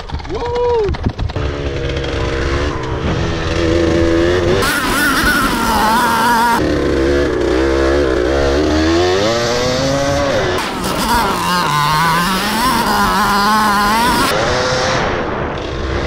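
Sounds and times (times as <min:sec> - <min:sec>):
dirt bike engine revving: 0:01.1 - 0:16.0.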